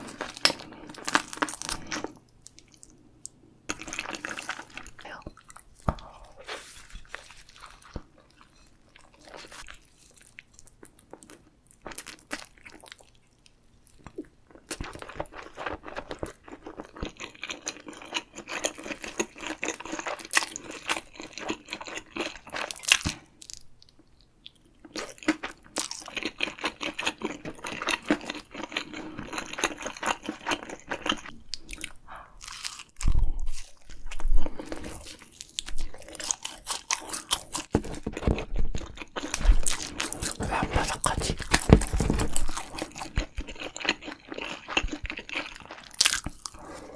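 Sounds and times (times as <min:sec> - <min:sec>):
chewing crunchy food: 0:00.0 - 0:03.0, 0:03.7 - 0:46.9.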